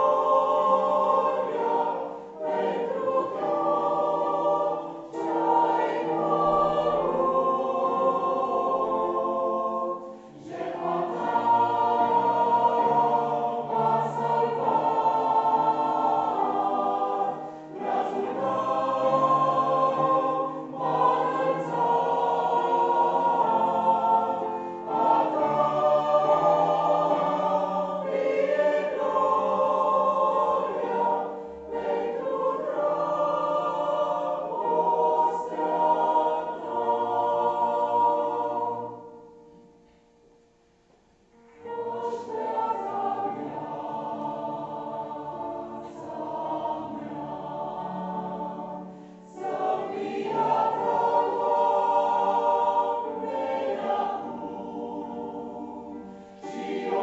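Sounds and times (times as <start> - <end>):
mixed choir singing: 0.0 - 39.8, 41.3 - 57.0.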